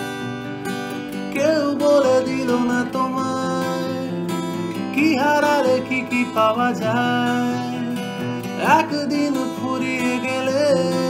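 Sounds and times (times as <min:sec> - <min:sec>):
acoustic guitar strumming: 0:00.0 - 0:11.0
man singing: 0:01.1 - 0:11.0.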